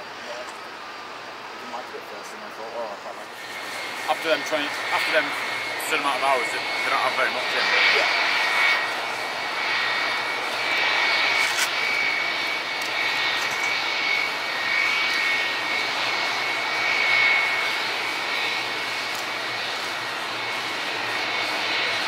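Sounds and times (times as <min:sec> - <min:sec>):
jet engines whining: 0:00.0 - 0:22.0.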